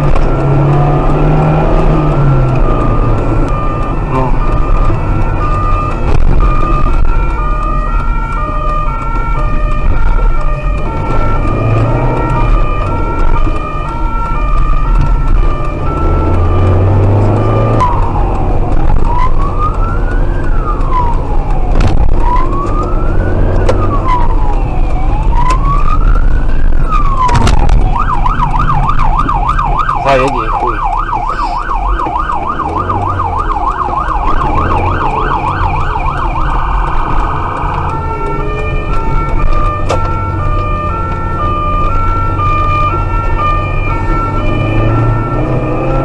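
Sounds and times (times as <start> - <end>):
car engine and road noise: 0.0 - 46.0
police siren: 0.0 - 46.0.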